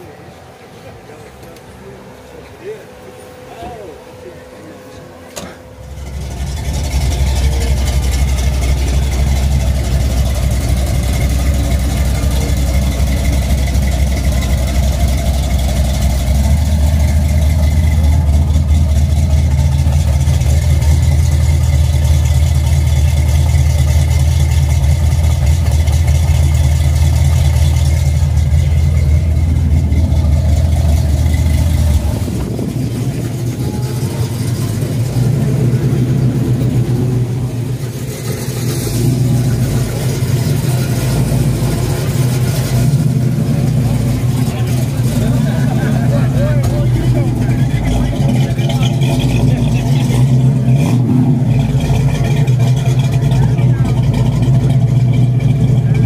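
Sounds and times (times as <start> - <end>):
car engine idling loudly: 0.0 - 56.0
car rolling past: 4.7 - 56.0.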